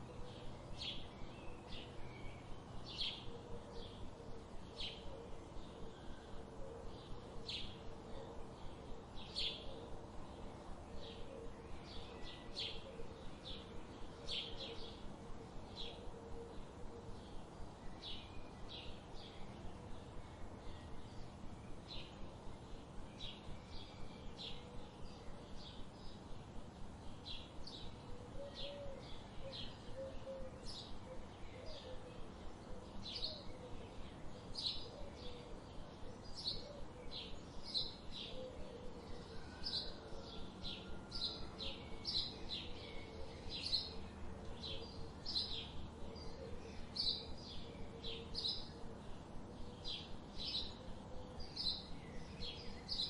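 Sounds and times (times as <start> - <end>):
small birds chirping: 0.0 - 53.0
steady low background hiss: 0.0 - 53.0.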